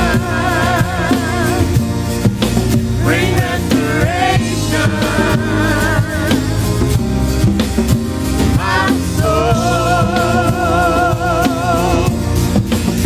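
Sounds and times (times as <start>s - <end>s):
live worship band: 0.0s - 13.0s.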